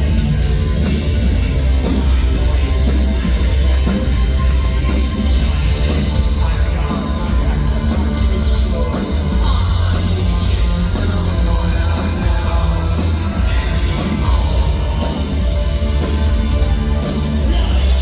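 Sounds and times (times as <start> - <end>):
live industrial music: 0.0 - 18.0.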